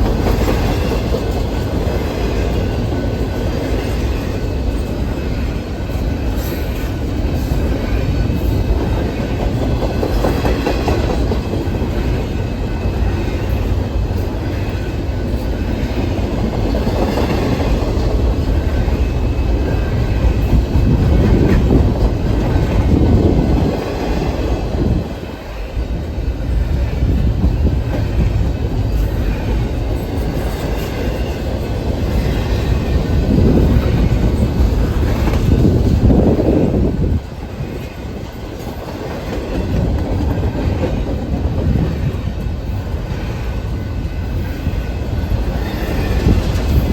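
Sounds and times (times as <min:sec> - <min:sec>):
train wheels clacking over rail joints: 0:00.0 - 0:46.9.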